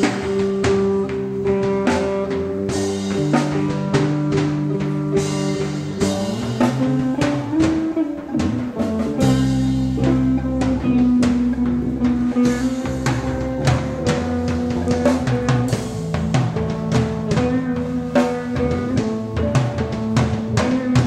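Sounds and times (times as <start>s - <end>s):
drum kit beat: 0.0s - 21.0s
electric guitar: 0.0s - 21.0s.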